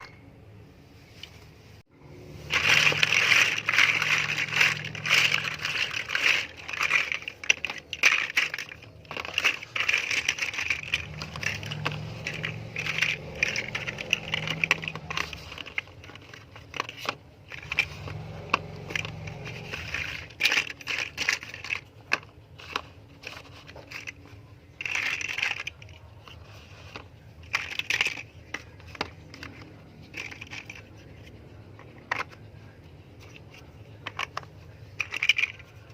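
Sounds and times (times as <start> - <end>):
plastic bricks clicking and rattling: 2.4 - 35.9.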